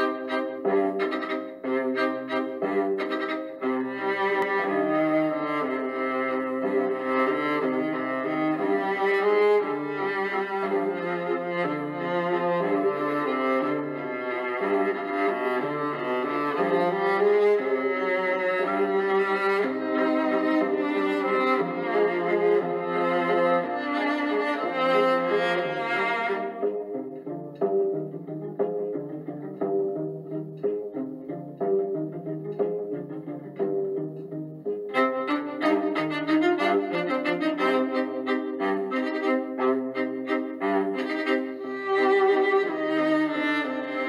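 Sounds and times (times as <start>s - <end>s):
cello and violin melody: 0.0s - 44.0s.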